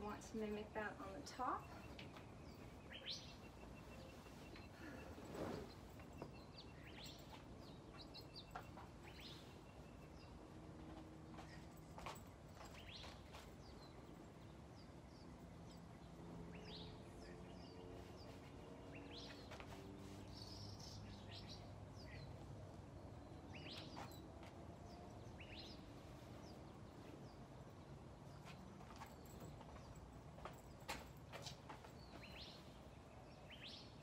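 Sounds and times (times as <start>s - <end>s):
faint birds chirping: 0.0s - 34.0s.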